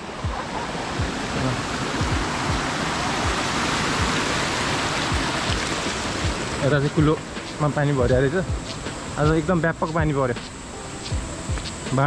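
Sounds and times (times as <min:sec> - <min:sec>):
water rushing down cascade: 0:00.0 - 0:12.0.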